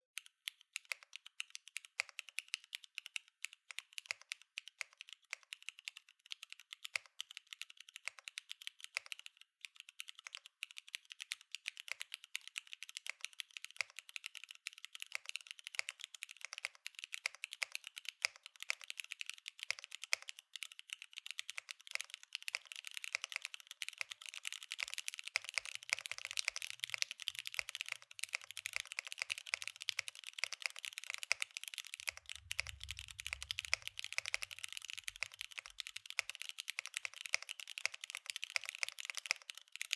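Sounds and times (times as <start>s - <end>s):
fast typing on mechanical keyboard: 0.2s - 39.9s.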